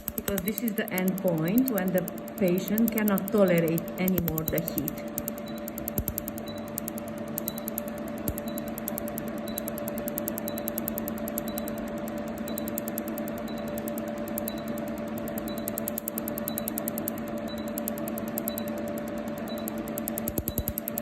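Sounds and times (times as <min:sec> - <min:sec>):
fast high pulsing: 0:00.0 - 0:21.0
laser machine humming: 0:00.0 - 0:21.0.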